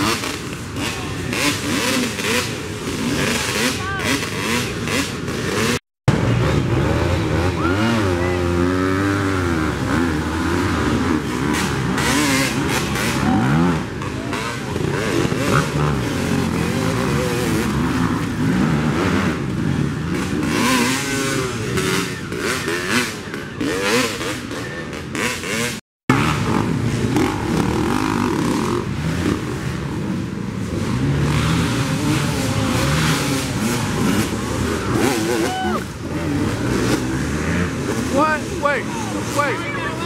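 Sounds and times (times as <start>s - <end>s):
dirt bike engines revving: 0.0s - 40.0s.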